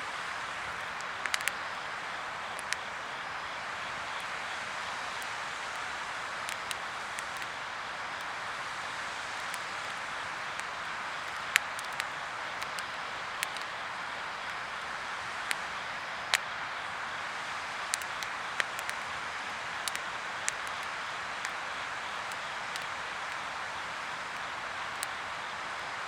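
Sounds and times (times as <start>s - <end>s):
firewood burning hiss: 0.0s - 26.0s
fire crackles and pops: 0.1s - 26.0s.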